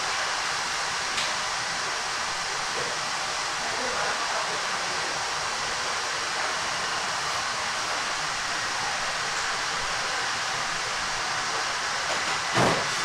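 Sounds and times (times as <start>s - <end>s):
kitchen background rushing noise: 0.0s - 13.0s.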